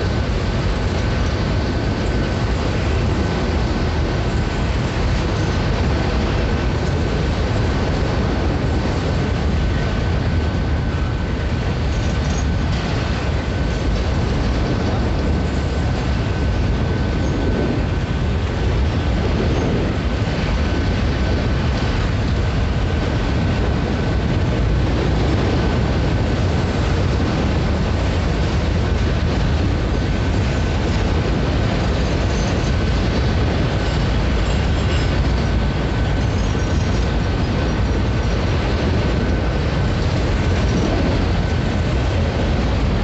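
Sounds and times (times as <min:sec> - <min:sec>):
train wheels on rail: 0:00.0 - 0:43.0.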